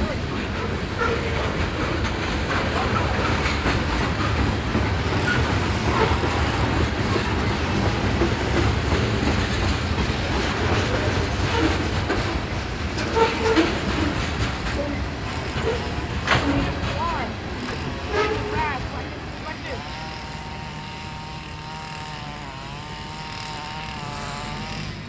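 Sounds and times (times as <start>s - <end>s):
train wheels rumbling on rails: 0.0s - 25.0s
wheels clicking over rail joints: 0.0s - 25.0s.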